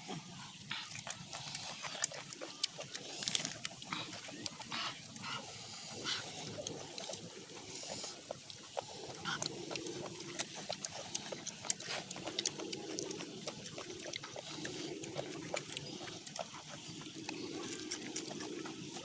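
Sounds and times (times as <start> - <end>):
chewing and lip-smacking: 0.0 - 19.0
small irregular clicks: 0.8 - 19.0.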